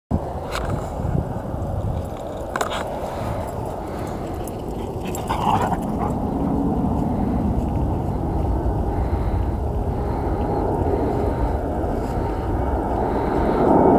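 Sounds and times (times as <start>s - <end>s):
jet engines rumbling: 0.1s - 13.9s.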